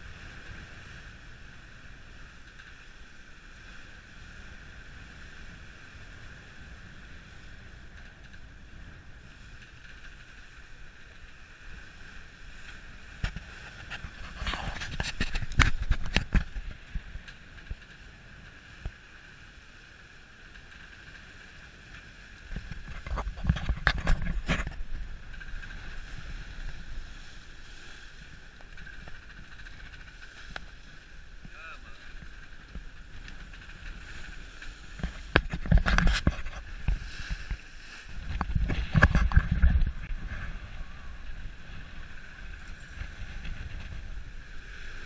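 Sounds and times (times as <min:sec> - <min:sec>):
water rushing along hull: 0:00.0 - 0:45.0
wind buffeting microphone: 0:04.2 - 0:18.9, 0:21.2 - 0:45.0.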